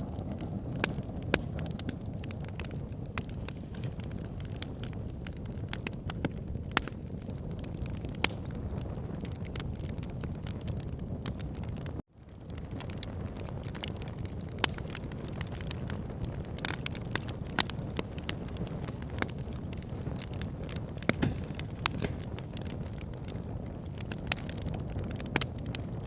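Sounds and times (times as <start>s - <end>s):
burning logs crackling and popping: 0.0s - 26.0s
low rumble of flames: 0.0s - 26.0s.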